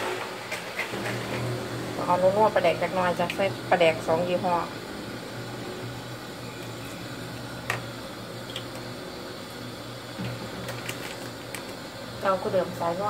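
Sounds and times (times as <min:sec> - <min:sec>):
constant hum: 0:00.0 - 0:13.0
pot simmering hiss: 0:00.0 - 0:13.0.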